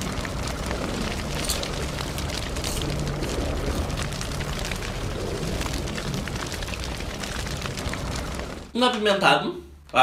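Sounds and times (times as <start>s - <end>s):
low rumble: 0.0s - 8.7s
flames burning: 0.0s - 8.8s
fire crackling: 0.0s - 9.3s.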